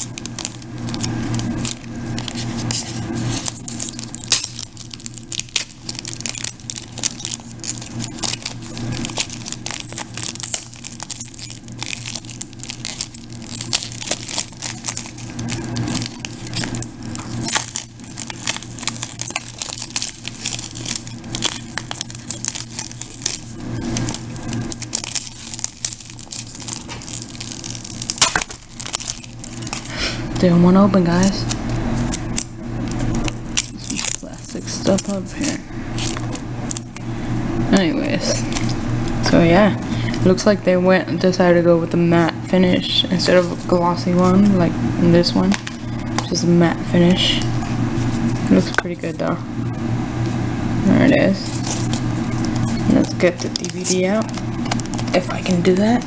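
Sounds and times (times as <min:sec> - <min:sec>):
plastic shrink wrap crinkling: 0:00.0 - 0:37.2, 0:37.8 - 0:39.2, 0:45.2 - 0:49.2, 0:51.1 - 0:56.0.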